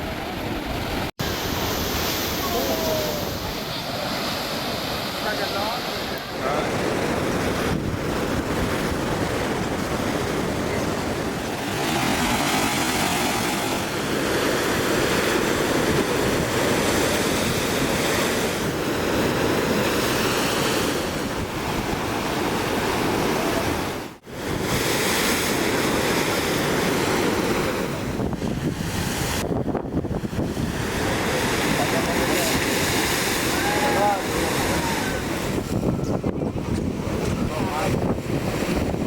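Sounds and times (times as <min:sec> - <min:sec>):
sea waves crashing against jetty: 0:00.0 - 0:39.0.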